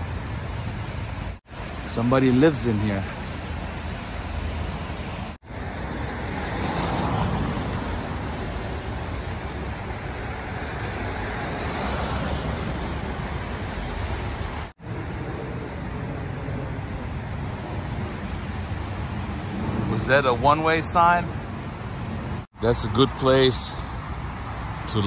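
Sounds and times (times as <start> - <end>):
road traffic rushing: 0.0 - 25.0.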